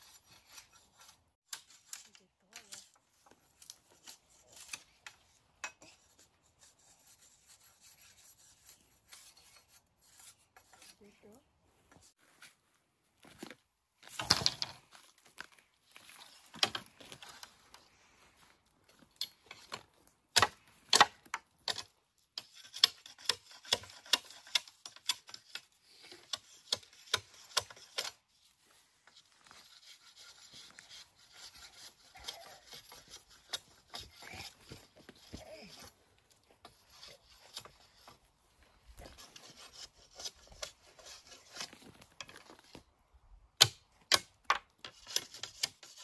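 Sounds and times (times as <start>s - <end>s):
scraping along bamboo: 0.0s - 12.7s, 13.4s - 42.9s, 43.6s - 46.0s.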